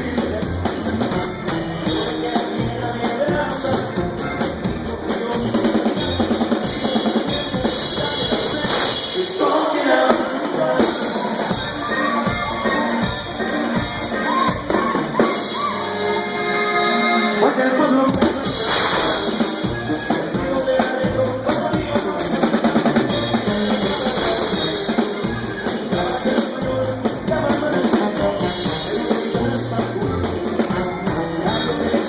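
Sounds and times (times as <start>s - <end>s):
drum kit beat: 0.0s - 32.0s
live band playing: 0.0s - 32.0s.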